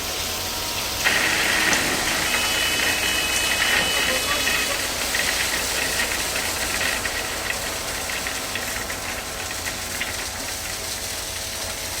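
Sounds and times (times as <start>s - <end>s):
machine engine running: 0.0s - 12.0s.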